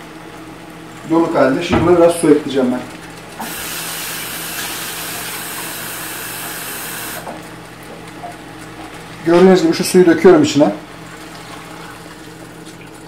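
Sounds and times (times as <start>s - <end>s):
kitchen tap running: 1.0s - 13.0s.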